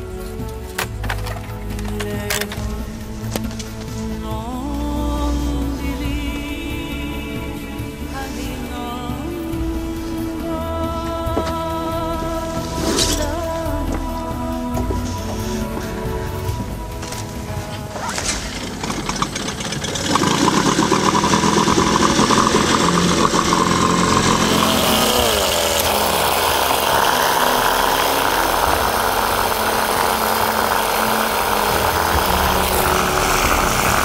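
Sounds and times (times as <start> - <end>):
outboard motor running: 0.0 - 34.0.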